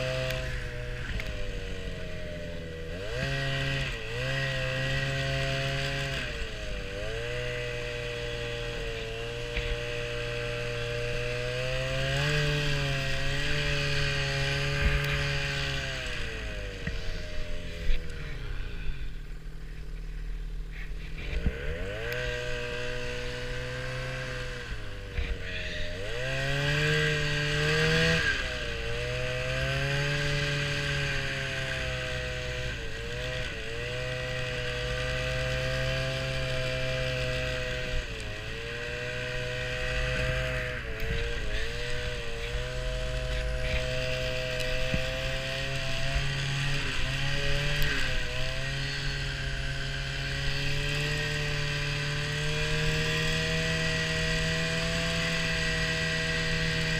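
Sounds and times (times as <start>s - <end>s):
vehicle engine accelerating: 0.0s - 56.9s.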